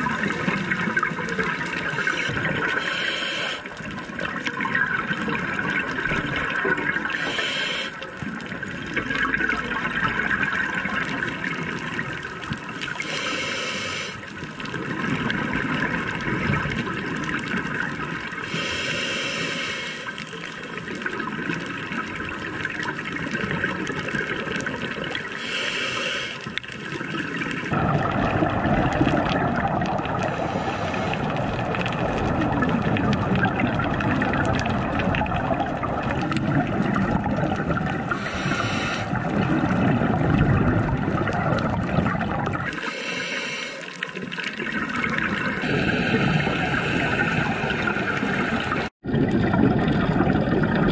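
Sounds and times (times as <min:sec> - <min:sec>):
bubbling hiss: 0:00.0 - 0:50.9
muffled underwater rush of water: 0:00.0 - 0:50.9.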